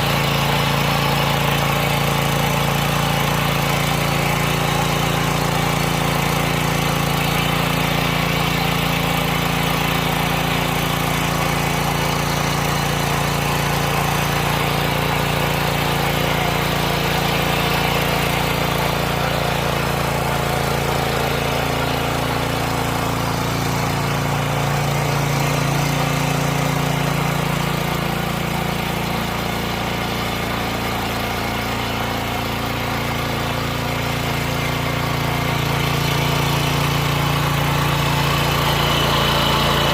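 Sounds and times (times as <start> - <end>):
small tiller engine running: 0.0 - 39.9.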